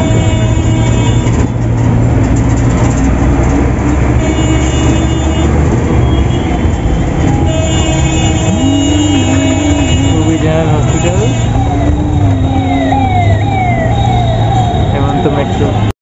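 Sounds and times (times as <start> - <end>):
bus diesel engine drone: 0.0 - 15.9
road rumble: 0.0 - 15.9.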